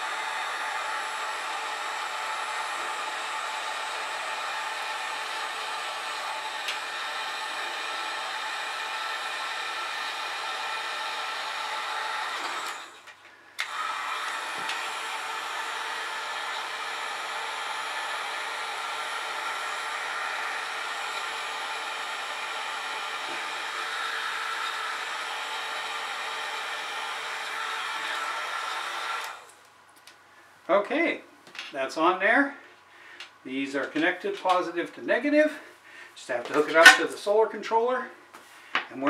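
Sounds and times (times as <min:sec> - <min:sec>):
heat gun blowing air: 0:00.0 - 0:29.6, 0:35.6 - 0:37.5.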